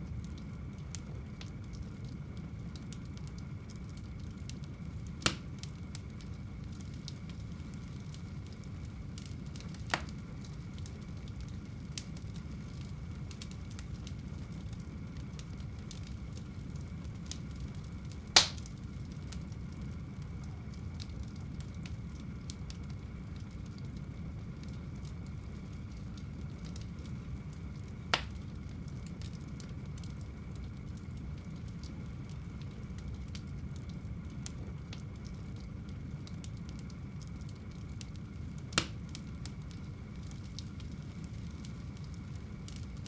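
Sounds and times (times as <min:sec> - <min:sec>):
burning wood popping: 0:00.0 - 0:43.0
wood fire burning: 0:00.0 - 0:43.0.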